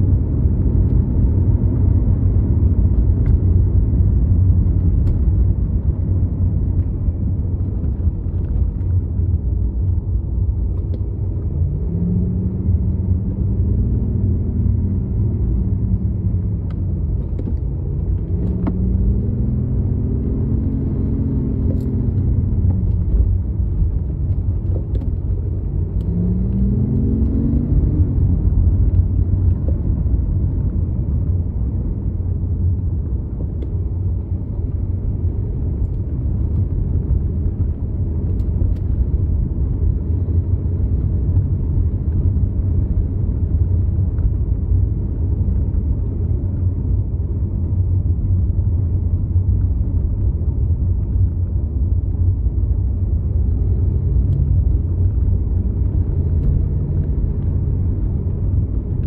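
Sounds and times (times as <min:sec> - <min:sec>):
car engine accelerating: 0:00.0 - 0:59.0
road and tyre rumble: 0:00.0 - 0:59.0.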